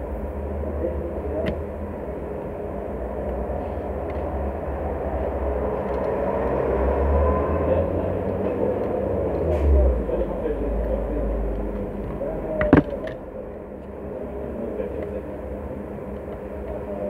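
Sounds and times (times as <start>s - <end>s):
low rumble and hiss: 0.0s - 17.0s.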